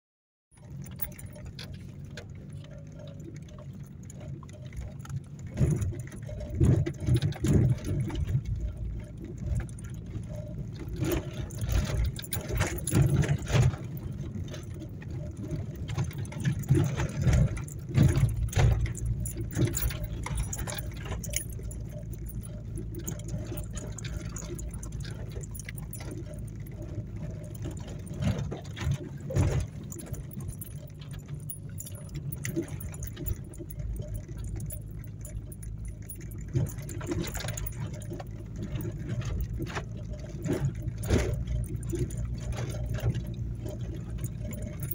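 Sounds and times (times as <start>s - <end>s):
car engine and road drone: 0.5s - 44.9s
car knocking and rattling: 0.6s - 44.9s.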